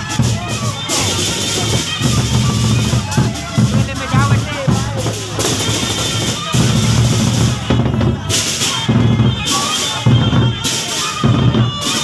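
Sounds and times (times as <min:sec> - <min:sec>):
barrel drums beating: 0:00.0 - 0:12.0
pitched melody line: 0:00.1 - 0:11.4.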